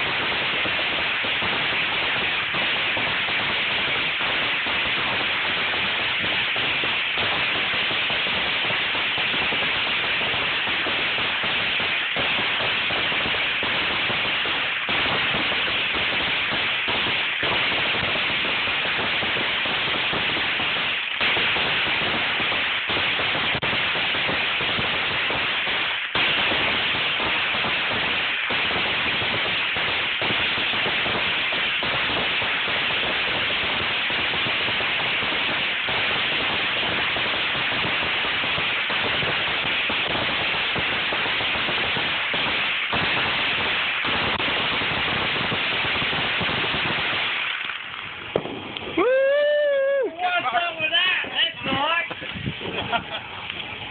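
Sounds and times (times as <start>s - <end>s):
fireworks crackling and popping: 0.0s - 53.9s.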